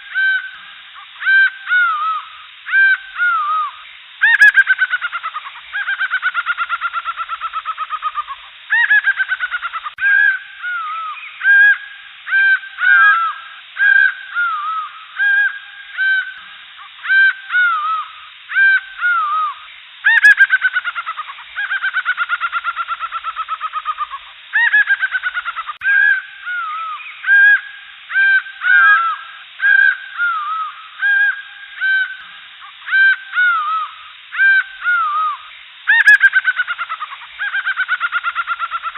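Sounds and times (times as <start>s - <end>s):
jungle bird calls: 0.0s - 38.9s.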